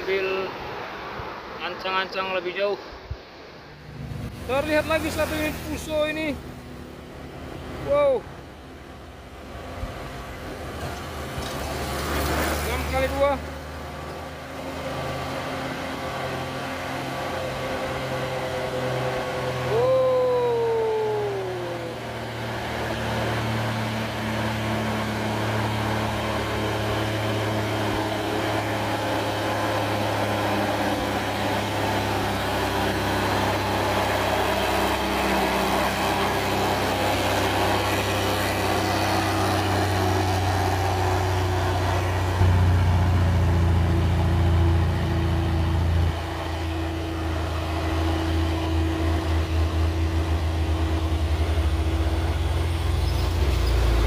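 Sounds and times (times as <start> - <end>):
truck diesel engine pulling uphill: 3.8 - 54.0.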